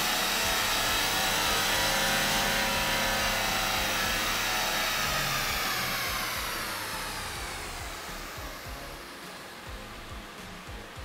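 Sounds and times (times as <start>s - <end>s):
engine and dyno rollers whooshing whine: 0.0s - 11.0s.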